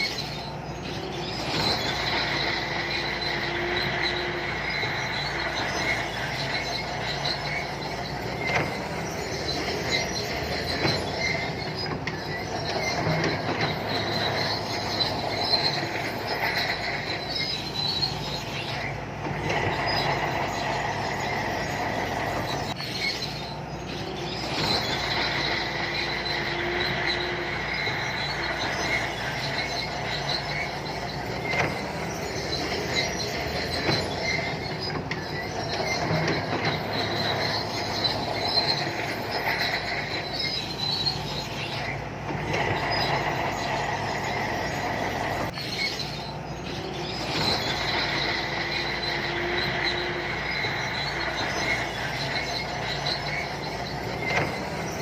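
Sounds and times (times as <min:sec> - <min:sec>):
bulldozer tracks squealing and clanking: 0:00.0 - 0:55.0
diesel engine running: 0:00.0 - 0:55.0.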